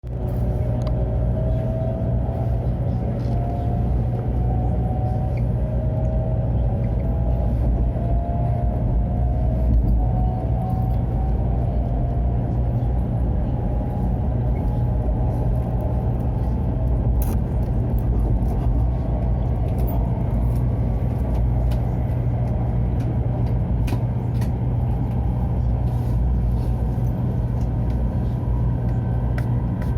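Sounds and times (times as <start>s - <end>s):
train low rumble: 0.0s - 29.9s.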